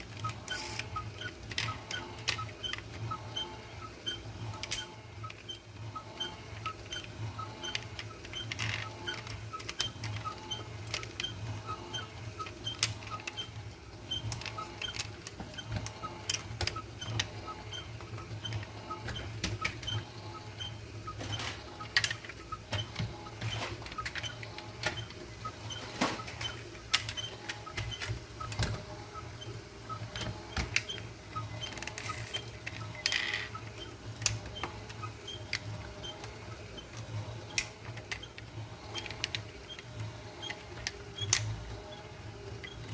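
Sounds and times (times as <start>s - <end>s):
toy cars clicking and tapping: 0.0s - 20.2s, 21.1s - 42.9s.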